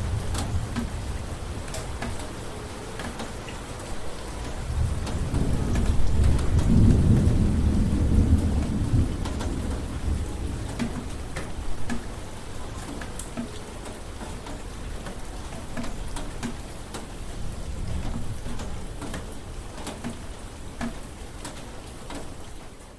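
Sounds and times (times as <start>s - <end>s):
rain on a hard surface: 0.0s - 22.9s.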